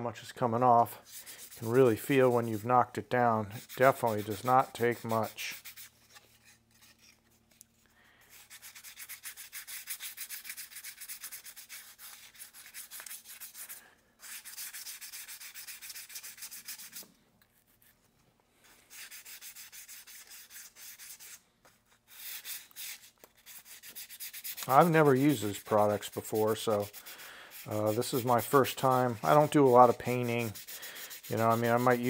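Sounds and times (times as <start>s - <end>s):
sandpaper scratching strokes: 0.8s - 7.1s, 8.3s - 17.0s, 18.6s - 21.4s, 22.0s - 32.0s.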